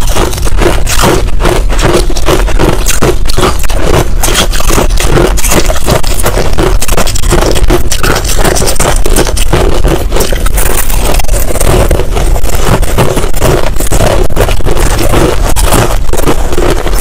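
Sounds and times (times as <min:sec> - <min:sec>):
crushed ice being chewed: 0:00.0 - 0:17.0.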